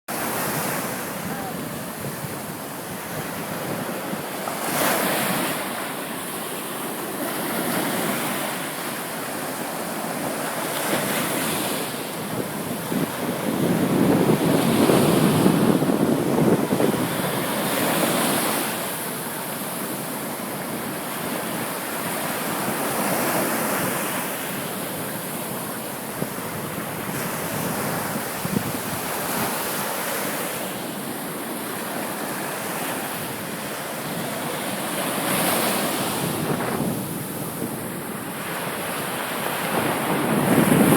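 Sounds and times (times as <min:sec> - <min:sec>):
ocean waves breaking: 0:00.1 - 0:40.9.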